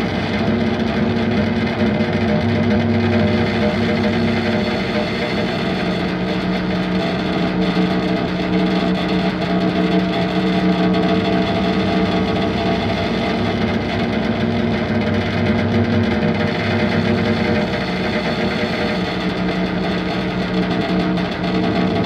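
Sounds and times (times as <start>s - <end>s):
droning distorted music: 0.0s - 22.0s.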